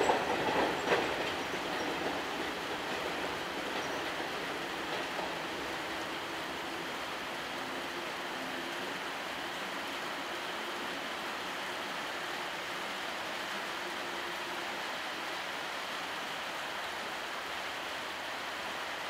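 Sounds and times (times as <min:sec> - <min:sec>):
freight train rolling: 0:00.0 - 0:19.0.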